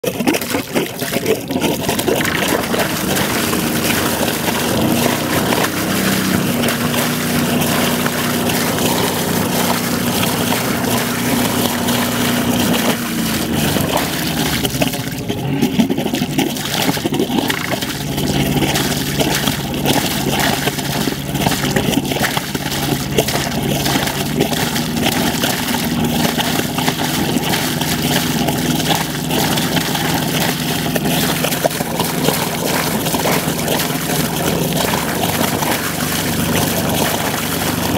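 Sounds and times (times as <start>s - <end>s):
exhaust water splashing and gurgling: 0.0s - 37.9s
diesel engine running: 1.2s - 37.9s.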